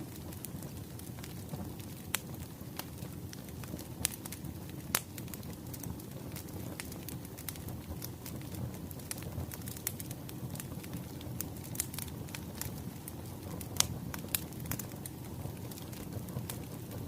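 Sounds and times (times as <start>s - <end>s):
burning logs popping: 0.0s - 17.0s
low fire rumble: 0.0s - 17.0s
wood fire crackling: 0.0s - 17.0s.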